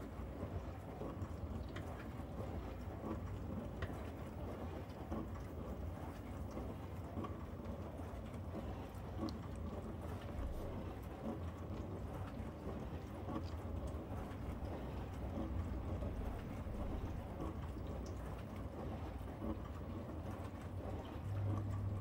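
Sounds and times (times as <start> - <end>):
dishwasher low hum: 0.0 - 22.0.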